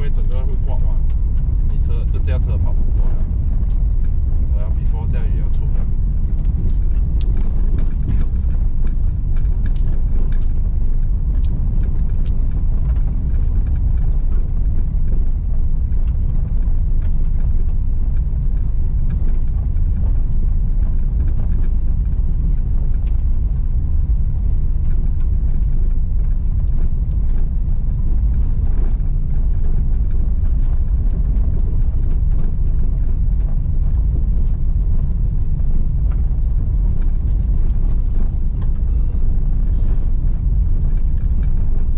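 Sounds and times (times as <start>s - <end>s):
tyres and engine rumbling: 0.0s - 41.9s.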